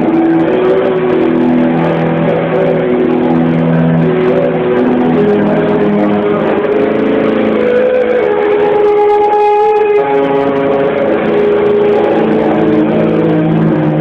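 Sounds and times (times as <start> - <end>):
distorted electric guitars: 0.0 - 14.0
rock band playing live: 0.0 - 14.0.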